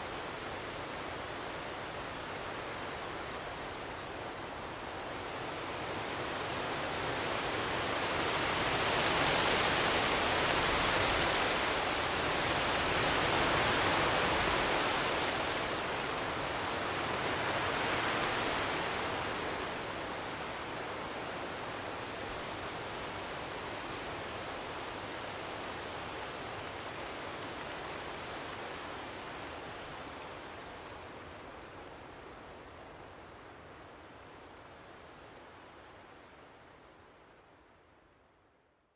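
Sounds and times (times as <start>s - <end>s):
wind blowing in gusts: 0.0s - 36.4s.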